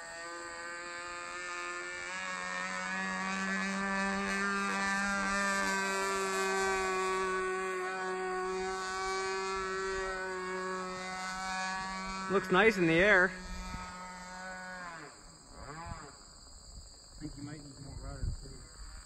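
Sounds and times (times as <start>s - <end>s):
model airplane motor droning: 0.0s - 19.0s.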